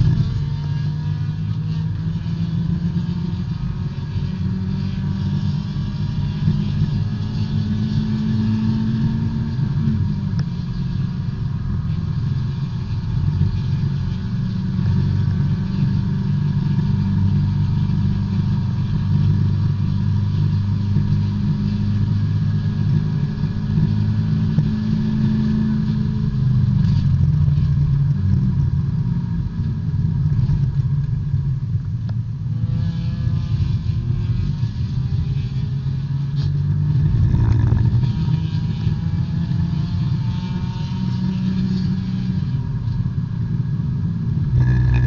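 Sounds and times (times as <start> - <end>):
race car engine at high revs: 0.0 - 45.0.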